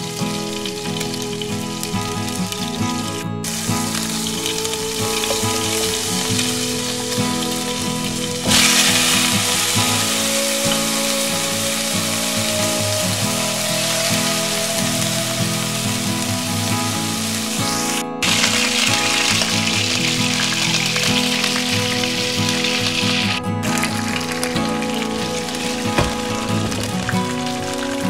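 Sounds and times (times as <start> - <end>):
background music: 0.0 - 28.0
butter and oil sizzling: 0.0 - 28.0
chicken frying: 0.0 - 28.0.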